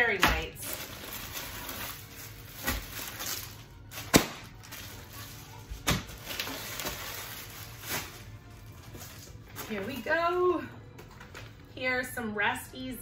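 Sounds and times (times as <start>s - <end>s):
plastic packaging rustling: 0.0s - 11.7s.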